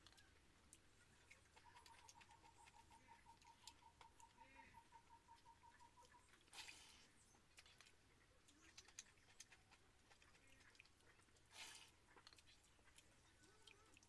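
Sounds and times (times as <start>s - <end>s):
faint rapid chirping: 0.1s - 14.0s.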